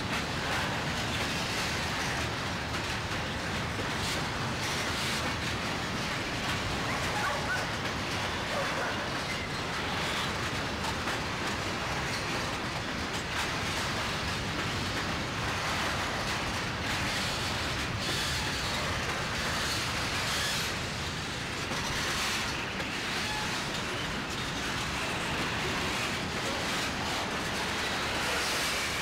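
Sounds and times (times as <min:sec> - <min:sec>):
train rumbling and rattling: 0:00.0 - 0:29.0.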